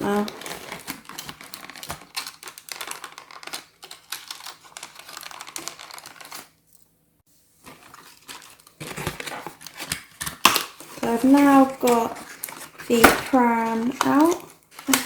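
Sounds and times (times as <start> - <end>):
toy packaging rustling and crinkling: 0.0 - 6.9, 7.6 - 15.0.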